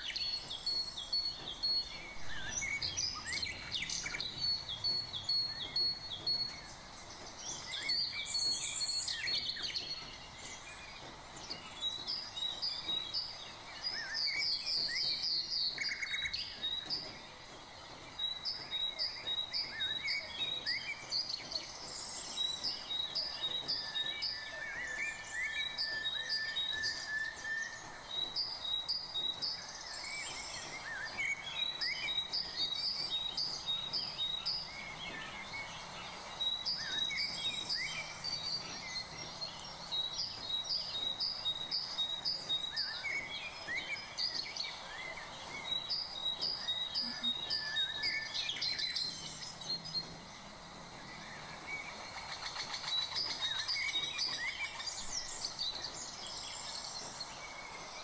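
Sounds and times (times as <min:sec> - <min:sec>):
birds chirping: 0:00.0 - 0:58.0
faint steady hiss: 0:00.0 - 0:58.0.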